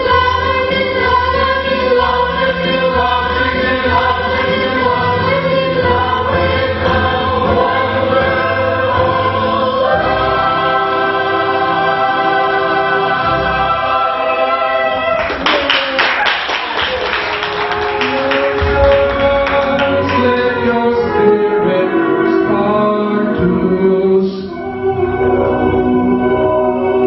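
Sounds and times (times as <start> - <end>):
choir singing in harmony: 0.0 - 15.5, 17.4 - 27.0.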